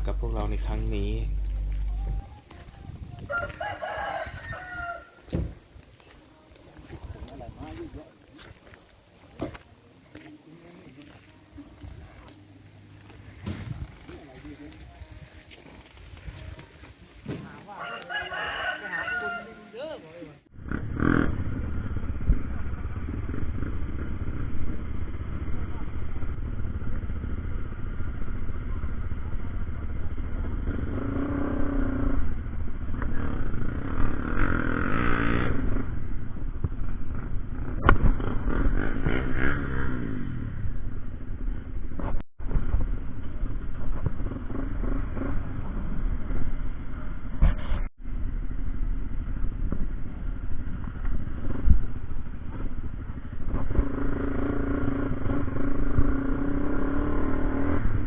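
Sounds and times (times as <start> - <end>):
motorcycle engine running: 0.0 - 3.6, 4.2 - 17.6, 20.4 - 58.0.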